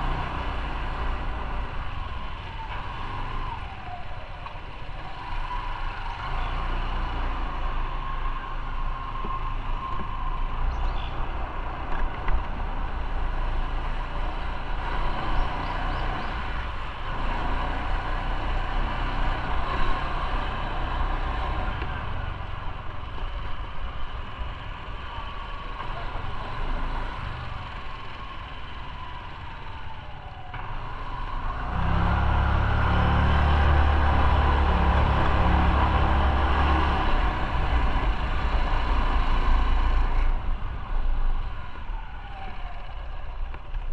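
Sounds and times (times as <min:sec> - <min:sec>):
wind and road noise: 0:00.0 - 0:43.9.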